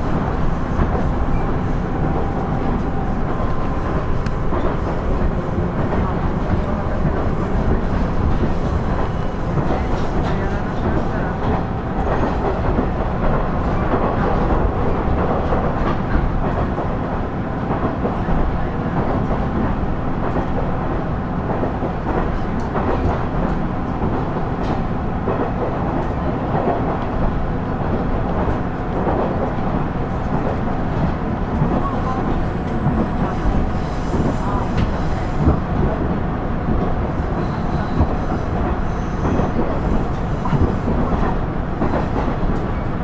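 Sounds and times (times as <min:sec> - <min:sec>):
diesel railcar rumbling on rails: 0:00.0 - 0:43.0.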